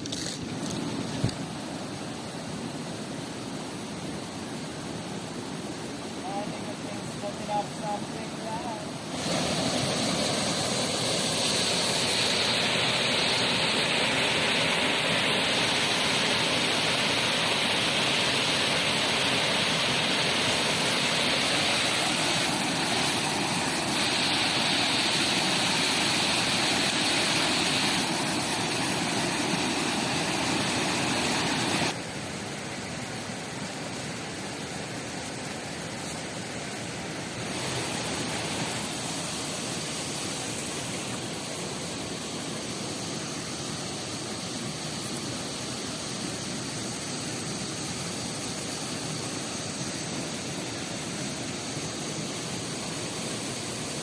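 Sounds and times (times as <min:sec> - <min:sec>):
river and waterfall rushing: 0:00.0 - 0:54.0.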